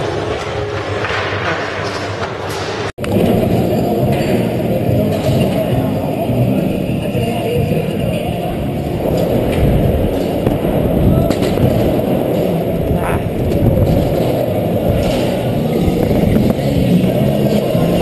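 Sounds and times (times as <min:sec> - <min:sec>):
bike tyres rolling on ramps: 0:00.0 - 0:18.0.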